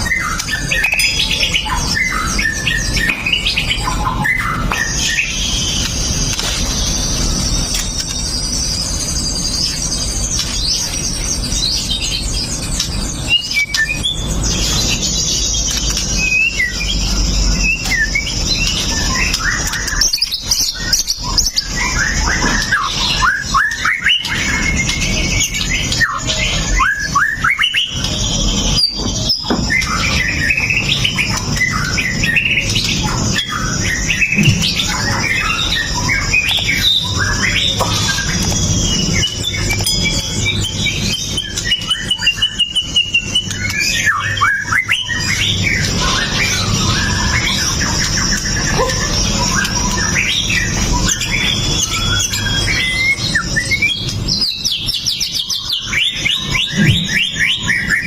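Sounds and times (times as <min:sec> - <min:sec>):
songbird singing whistles: 0:00.0 - 0:58.0.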